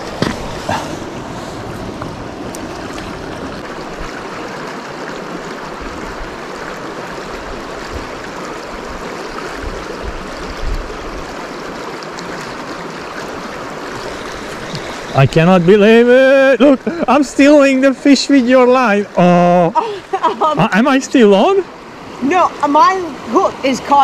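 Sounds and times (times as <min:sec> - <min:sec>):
creek water flowing over rocks: 0:00.0 - 0:24.0.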